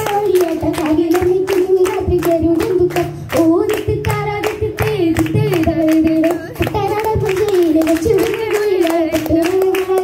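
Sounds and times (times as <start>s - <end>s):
girl singing: 0.0s - 10.0s
rhythmic hand-clapping: 0.0s - 10.0s.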